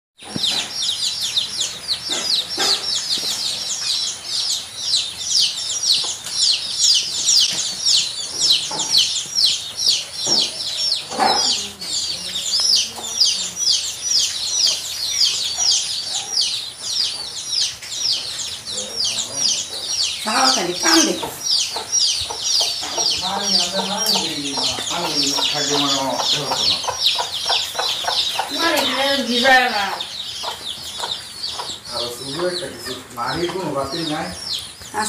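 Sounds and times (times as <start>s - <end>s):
birds chirping: 0.2s - 35.0s.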